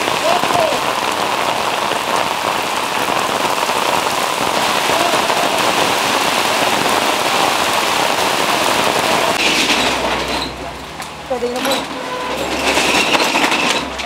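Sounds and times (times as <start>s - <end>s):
heavy rain pouring on street: 0.0s - 14.0s.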